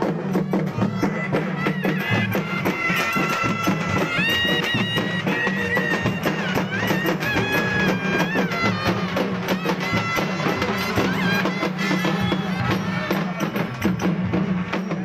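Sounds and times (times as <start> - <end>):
shrill reed pipes melody: 0.0 - 13.9
dense drumming: 0.0 - 15.0.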